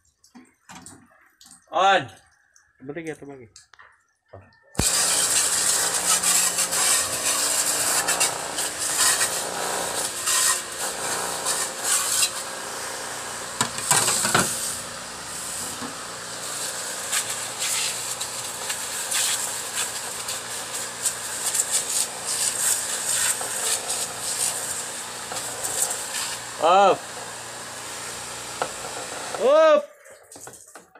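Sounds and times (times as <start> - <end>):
pressure washer spray hissing: 4.8 - 29.7.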